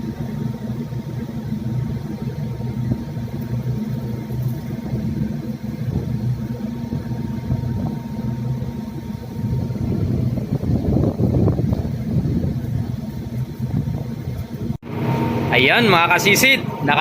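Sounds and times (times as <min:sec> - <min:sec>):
ship engines droning: 0:00.0 - 0:17.0.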